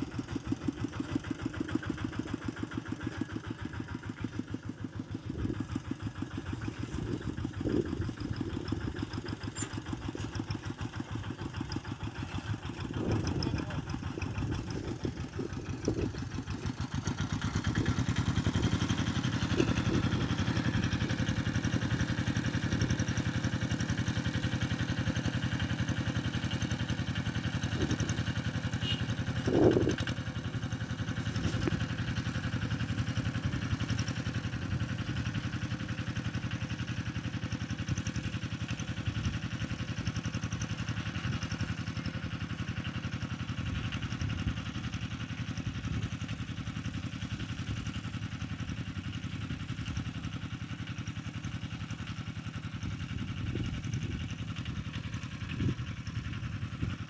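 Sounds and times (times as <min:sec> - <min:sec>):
plough engine running: 0:00.0 - 0:57.0.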